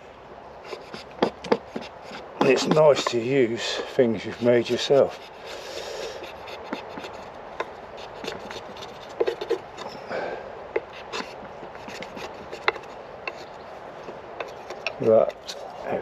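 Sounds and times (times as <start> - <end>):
knife scraping wood: 0.6 - 10.1, 10.8 - 16.0.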